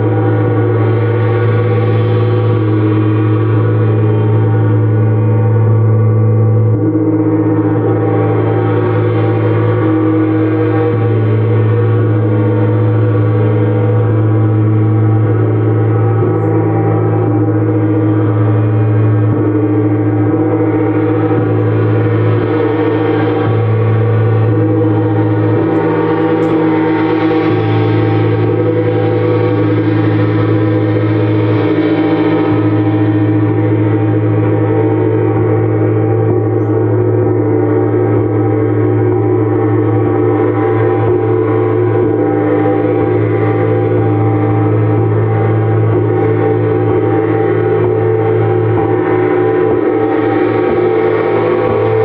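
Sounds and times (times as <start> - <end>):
gongs ringing: 0.0 - 52.0.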